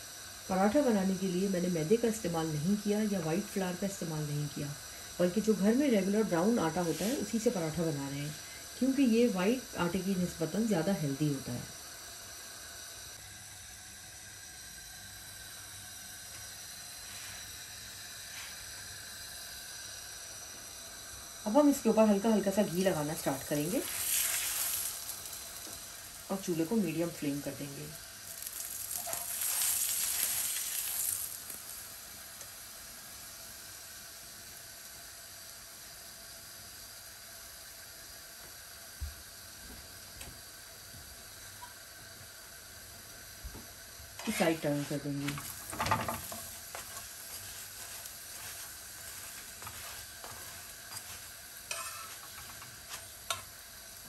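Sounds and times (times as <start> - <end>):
flatbread sizzling on hot griddle: 0.0 - 54.0
gas stove burner hissing: 0.0 - 54.0.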